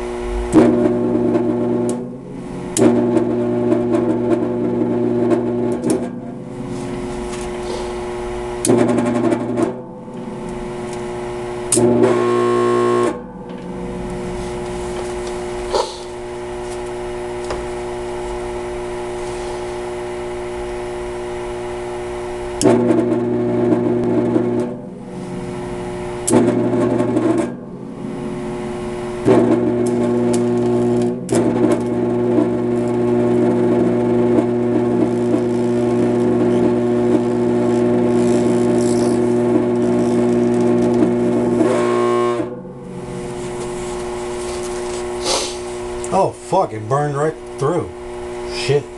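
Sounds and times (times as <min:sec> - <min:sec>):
electric arc buzzing and crackling: 0:00.0 - 0:48.9
steady electrical hum: 0:00.0 - 0:48.9.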